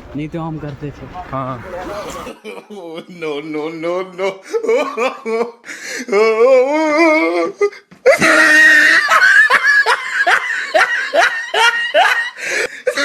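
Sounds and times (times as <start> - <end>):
person laughing heartily: 2.3 - 13.0.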